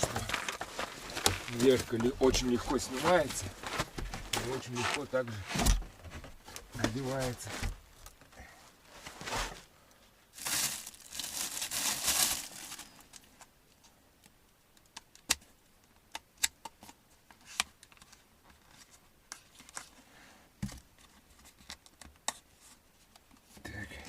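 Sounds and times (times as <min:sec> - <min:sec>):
rustling and crinkling: 0:00.0 - 0:14.0, 0:16.8 - 0:23.8.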